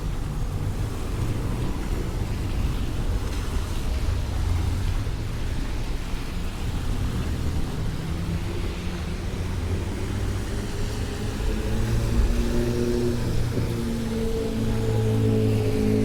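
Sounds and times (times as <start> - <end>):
low rumble of passing vehicles: 0.0 - 16.0
tyres hissing on wet road: 0.0 - 16.0.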